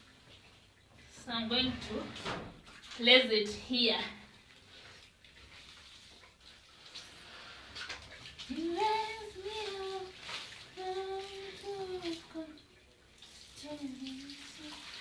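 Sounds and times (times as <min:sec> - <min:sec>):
water sloshing in a basin: 0:00.0 - 0:15.0.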